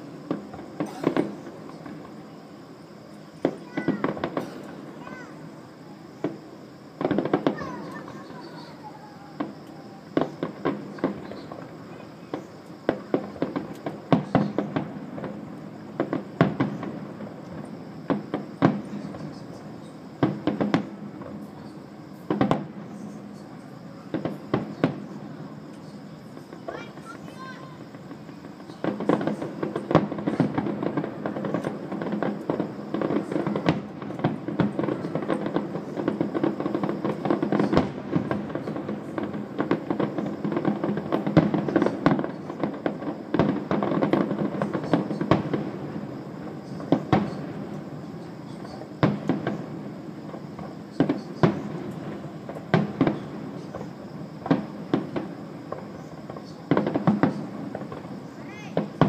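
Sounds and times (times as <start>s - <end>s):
distant fireworks bangs and crackles: 0.0s - 59.0s
fireworks rumble: 0.0s - 59.0s.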